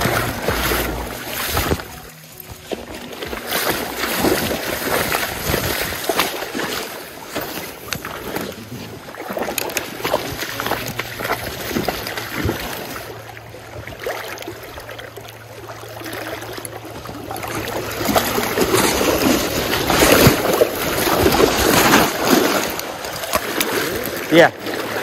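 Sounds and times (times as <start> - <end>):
fish splashing in water: 0.0 - 25.0.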